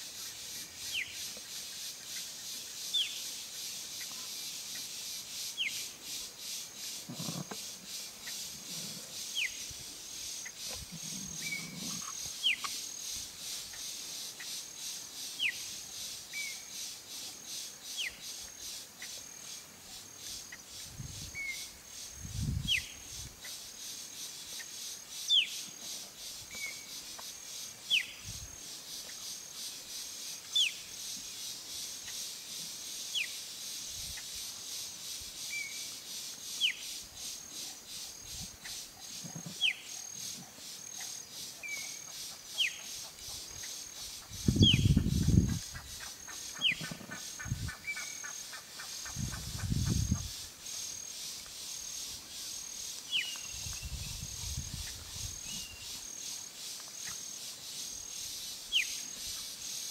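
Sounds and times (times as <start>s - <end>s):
high insect trill: 0.0s - 59.9s.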